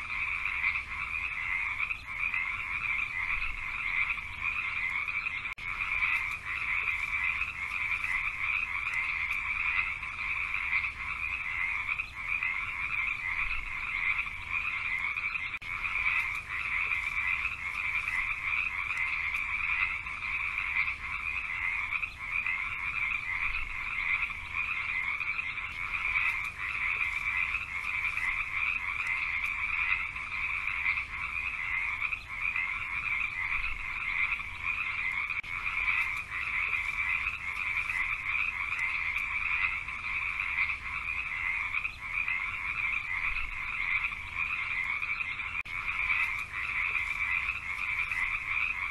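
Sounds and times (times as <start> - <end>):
chorus of frogs calling: 0.0 - 48.9.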